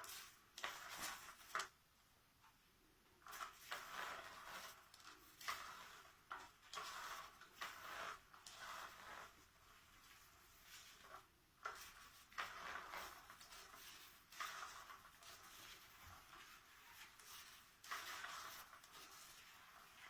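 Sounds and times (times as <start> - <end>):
scratchy fabric rustling: 3.3 - 20.0.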